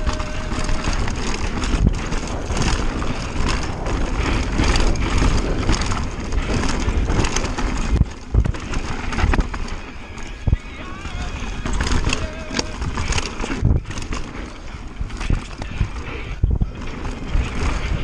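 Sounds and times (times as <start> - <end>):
bike tyres crunching over dirt: 0.0 - 18.0
wind noise on microphone: 0.0 - 18.0.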